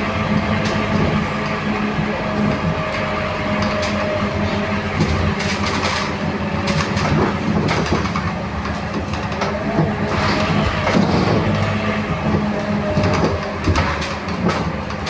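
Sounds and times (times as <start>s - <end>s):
bus body clicks and rattles: 0.0s - 15.0s
bus diesel engine drone: 0.0s - 15.0s
road noise: 0.0s - 15.0s.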